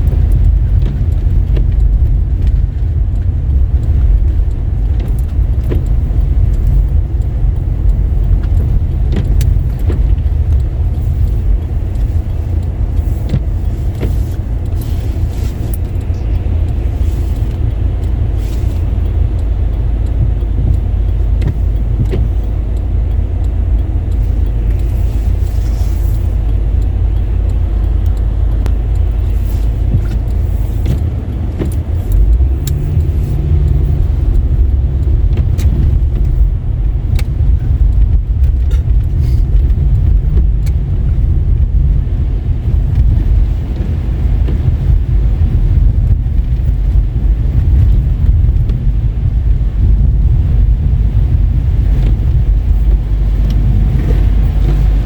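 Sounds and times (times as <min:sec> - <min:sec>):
tyres and engine rumbling: 0:00.0 - 0:55.0.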